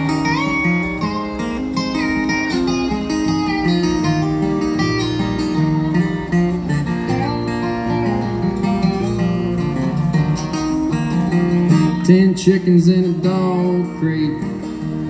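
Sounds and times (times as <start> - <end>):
acoustic guitar strumming chords: 0.0 - 15.0
slide guitar lead lines: 0.0 - 15.0.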